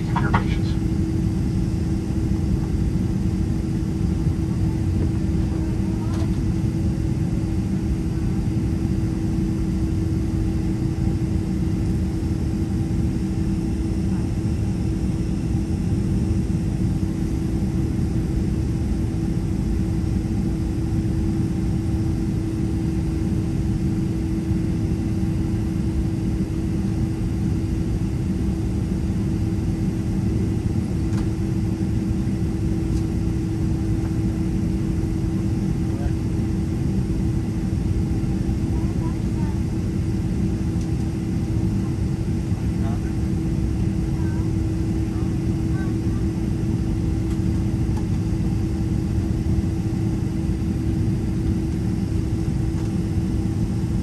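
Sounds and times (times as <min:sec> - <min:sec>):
jet engines idling: 0:00.0 - 0:19.0, 0:28.8 - 0:49.4, 0:50.0 - 0:53.8
cabin air hum: 0:00.0 - 0:54.0.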